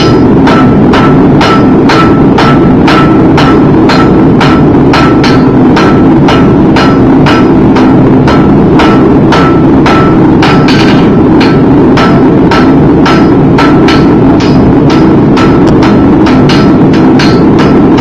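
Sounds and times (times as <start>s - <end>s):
hammer striking iron on anvil: 0.0s - 18.0s
loud steady noise: 0.0s - 18.0s.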